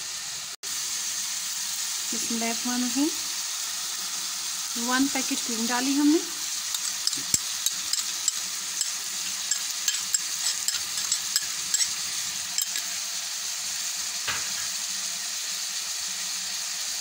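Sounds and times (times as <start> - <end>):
chicken frying in oil: 0.0 - 17.0.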